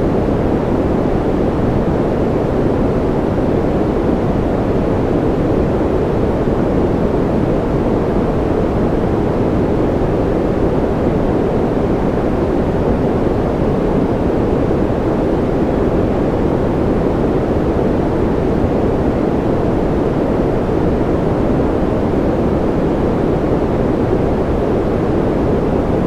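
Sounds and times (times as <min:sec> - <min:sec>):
deep muffled white noise: 0:00.0 - 0:26.0.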